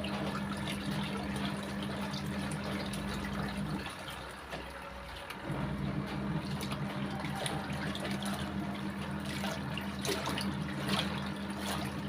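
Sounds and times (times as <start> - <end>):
washing machine motor hum: 0.0 - 12.0
water sloshing in tub: 0.0 - 12.0.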